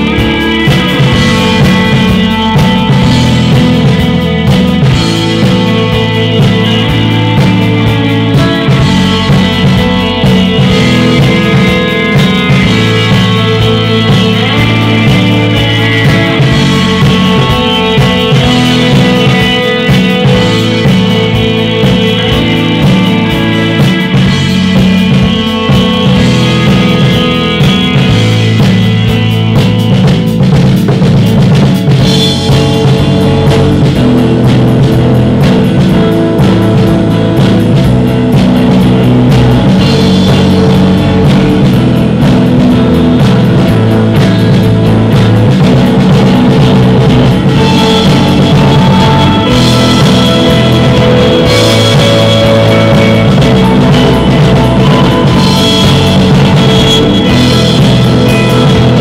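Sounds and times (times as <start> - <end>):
bass guitar: 0.0 - 59.0
drum kit steady beat: 0.0 - 59.0
layered electric guitars: 0.0 - 59.0.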